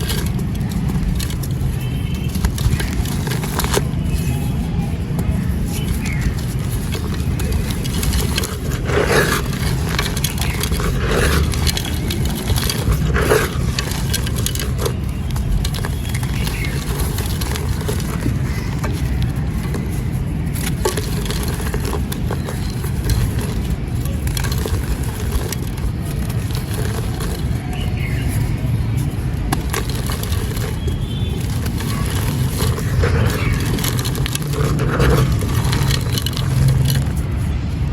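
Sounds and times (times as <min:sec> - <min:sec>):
dry chunks crumbled by hand: 0:00.0 - 0:37.9.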